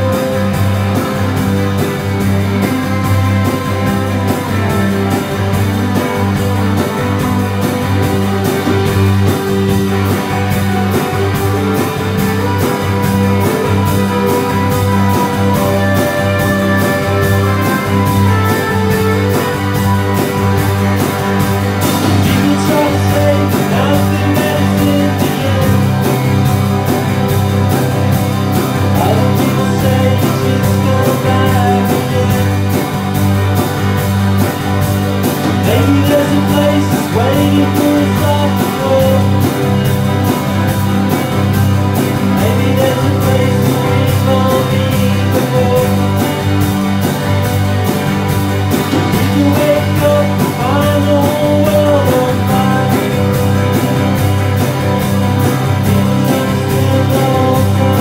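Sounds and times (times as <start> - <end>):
bass guitar: 0.0 - 58.0
drum kit steady beat: 0.0 - 58.0
electric guitar: 0.0 - 58.0.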